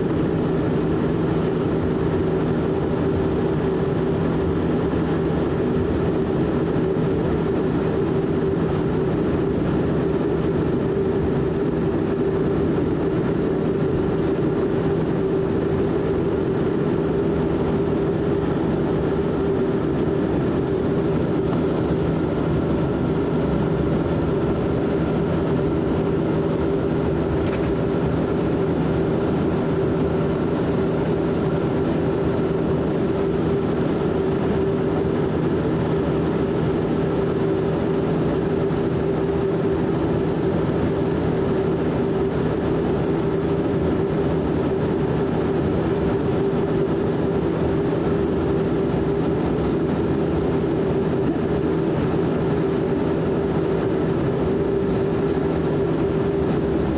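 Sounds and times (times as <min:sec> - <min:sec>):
turboprop engines droning: 0:00.0 - 0:56.9.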